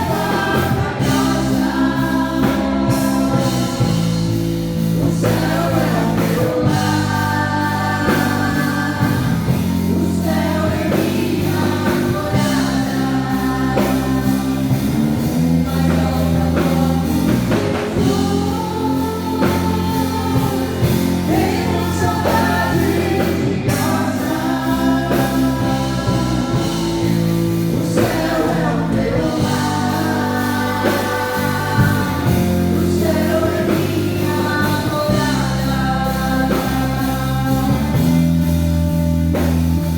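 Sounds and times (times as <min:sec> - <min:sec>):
bass: 0:00.0 - 0:39.9
gospel praise band: 0:00.0 - 0:39.9
keyboard chords: 0:00.0 - 0:39.9
sung vocals: 0:00.0 - 0:39.9.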